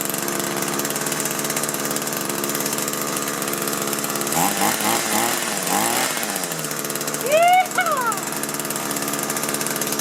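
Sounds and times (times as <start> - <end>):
hedge trimmer engine idling: 0.0 - 10.0.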